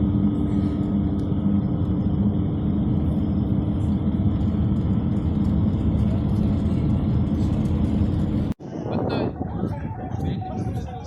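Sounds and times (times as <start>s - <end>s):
constant low hum: 0.0s - 11.0s
vehicle rumble: 0.0s - 11.0s.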